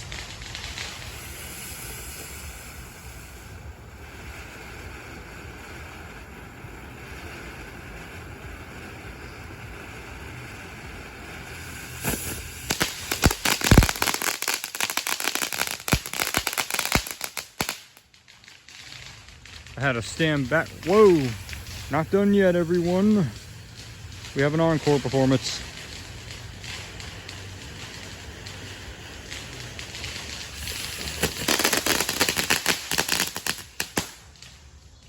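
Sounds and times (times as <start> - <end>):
firework crackling bangs: 0.0 - 35.0
firework fuse hissing: 0.0 - 35.0.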